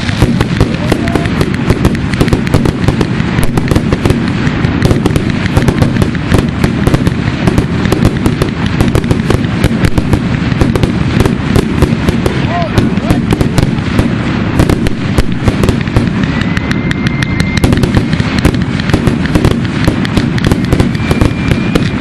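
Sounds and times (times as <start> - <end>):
fireworks bursting and cracking: 0.0 - 22.0
low rumble of booms: 0.0 - 22.0.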